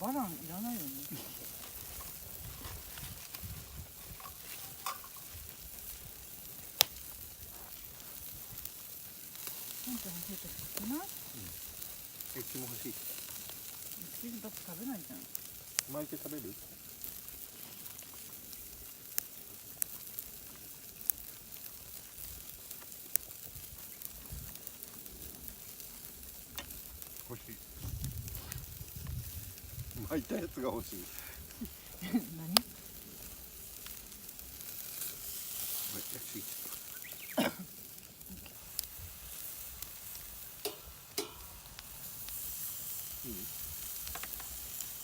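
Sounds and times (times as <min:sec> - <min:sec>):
meat sizzling on a grill: 0:00.0 - 0:45.0.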